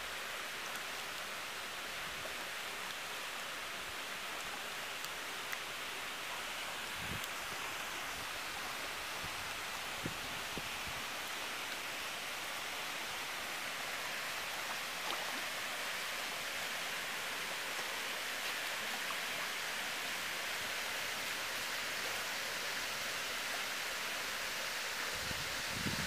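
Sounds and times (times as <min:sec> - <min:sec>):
water rushing in pool: 0:00.0 - 0:26.0.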